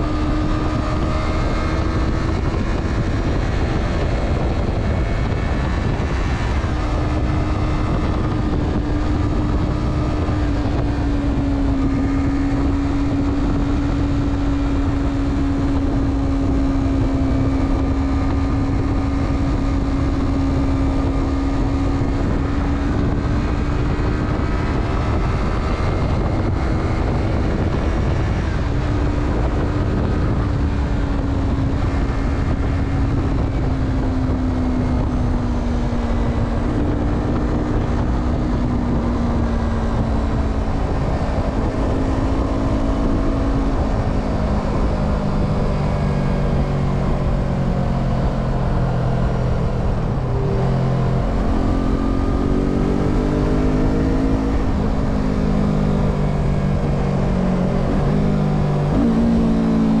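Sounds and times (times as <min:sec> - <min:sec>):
motorcycle engine cruising: 0:00.0 - 1:00.0
wind rushing: 0:00.0 - 1:00.0.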